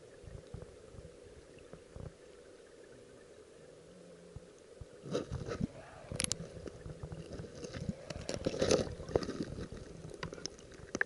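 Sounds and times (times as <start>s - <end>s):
underwater stream rushing and gurgling: 0.0s - 11.0s.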